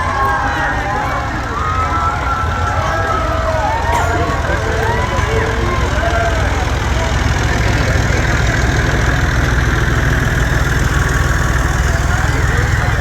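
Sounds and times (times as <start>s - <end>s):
heavy engine idling: 0.0s - 13.0s.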